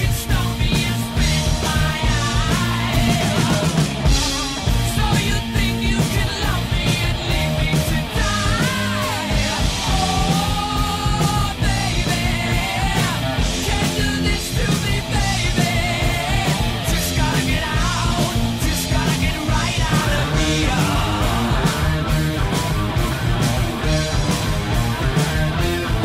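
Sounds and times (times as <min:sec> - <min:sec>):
loud rock music with singing: 0:00.0 - 0:26.0.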